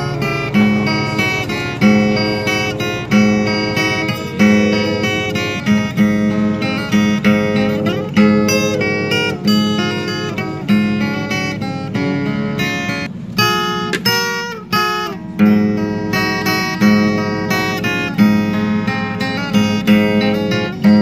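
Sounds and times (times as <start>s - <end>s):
acoustic guitar plucked and strummed: 0.0s - 21.0s.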